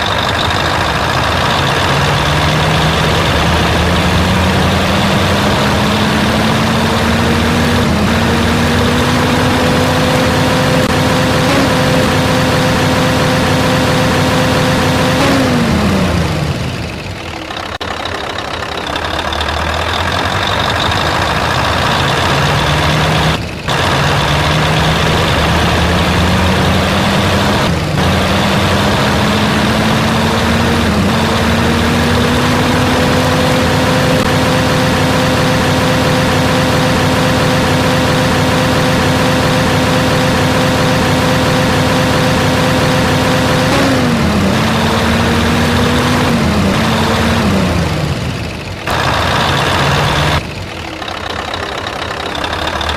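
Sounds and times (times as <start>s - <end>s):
truck diesel engine shifting gears: 0.0s - 52.9s.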